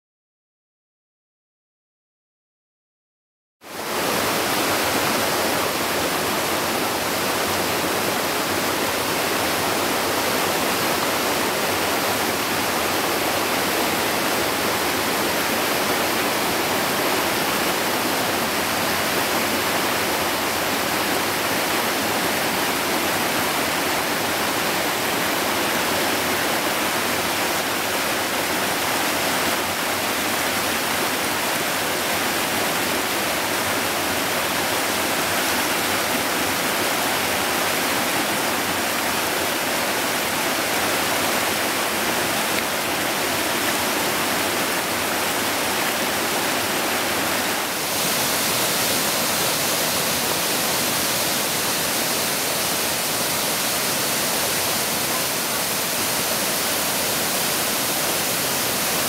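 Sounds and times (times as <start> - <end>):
stream rushing over rocks: 3.7 - 59.0.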